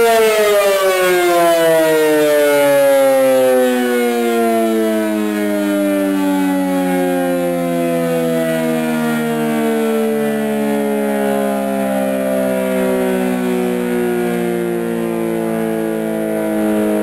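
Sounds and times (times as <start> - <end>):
siren winding down: 0.0 - 17.0.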